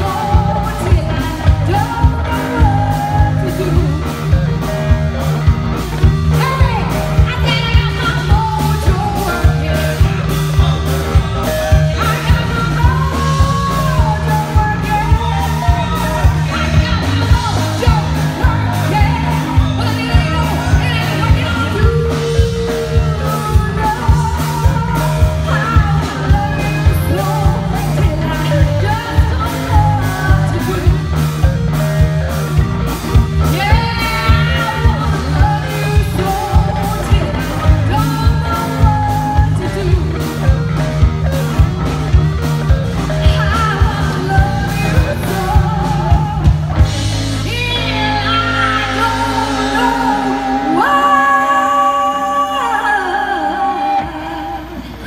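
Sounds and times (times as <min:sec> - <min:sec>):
woman singing: 0:00.0 - 0:05.0, 0:06.0 - 0:55.0
live rock band playing: 0:00.0 - 0:55.0.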